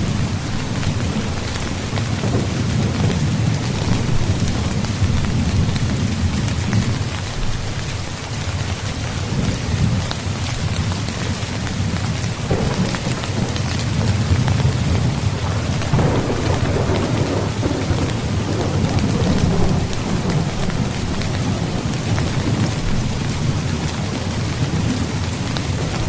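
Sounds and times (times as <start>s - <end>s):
heavy rain drumming on a tent: 0.0s - 26.0s.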